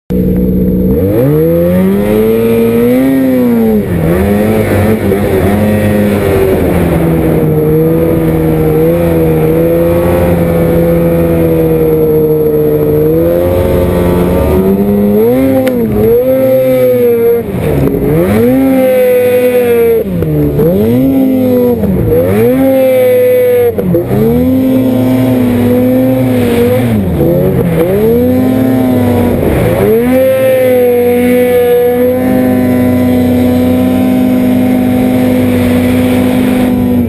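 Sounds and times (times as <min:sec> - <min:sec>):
snowmobile engine running hard: 0:00.1 - 0:37.0.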